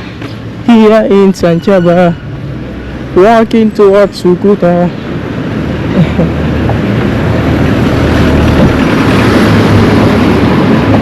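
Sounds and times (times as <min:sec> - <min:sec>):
large vehicle engine rumble: 0:00.0 - 0:11.0
road noise: 0:00.0 - 0:11.0.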